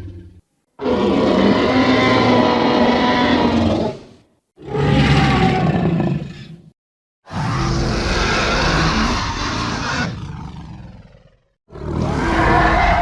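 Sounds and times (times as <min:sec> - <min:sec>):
synthesised dinosaur roars: 0:00.0 - 0:06.5, 0:07.3 - 0:13.0.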